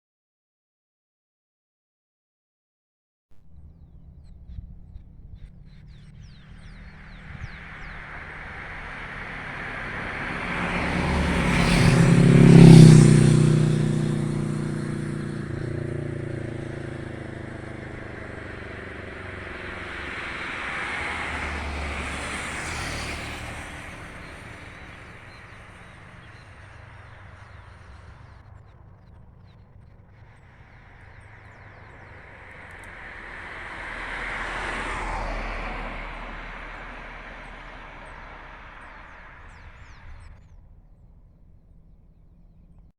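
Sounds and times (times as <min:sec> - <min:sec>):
faint vehicle passing: 0:03.4 - 0:42.9
vehicle passing by: 0:03.4 - 0:42.9.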